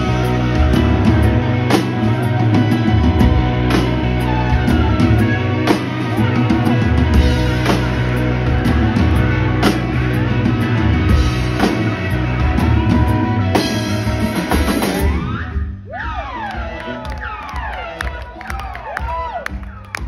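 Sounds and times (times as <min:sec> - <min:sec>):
drum kit: 0:00.0 - 0:20.0
rock band with electric guitars: 0:00.0 - 0:20.0.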